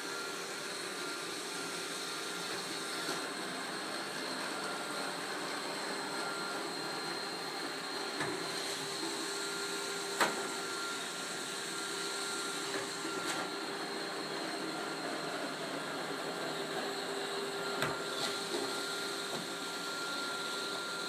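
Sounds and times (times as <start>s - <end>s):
robot vacuum whirring: 0.1s - 21.0s.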